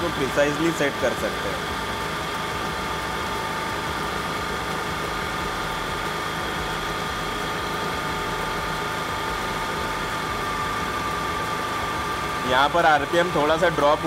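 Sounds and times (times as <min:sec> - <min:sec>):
scooter engine idling: 0:00.0 - 0:14.0.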